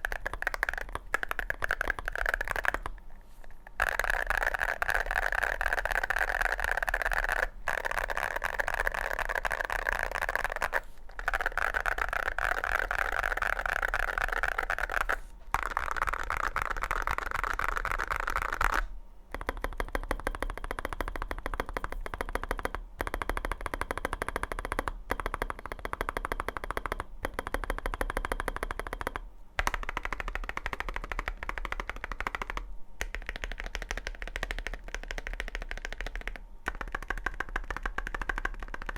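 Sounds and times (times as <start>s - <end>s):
fast keyboard typing clacks: 0.0s - 3.0s, 3.8s - 38.9s.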